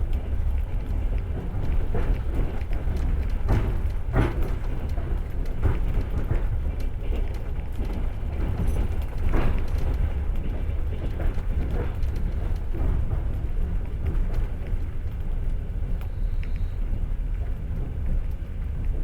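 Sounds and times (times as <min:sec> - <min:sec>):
wheels clacking over rail joints: 0:00.0 - 0:16.4
train running gear rumble: 0:00.0 - 0:19.0.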